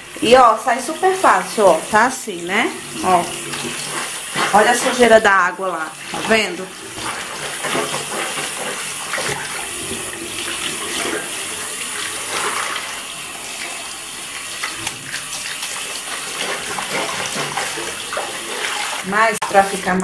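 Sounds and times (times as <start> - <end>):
tap water running into sink: 0.0 - 20.0
water splashes: 0.0 - 20.0.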